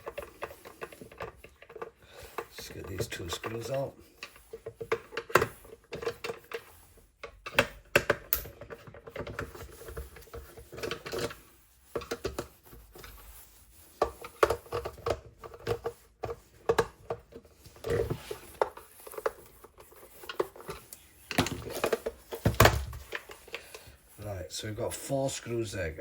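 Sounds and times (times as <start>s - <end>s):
screwdriver on plastic case: 0.0s - 13.3s, 13.9s - 24.0s.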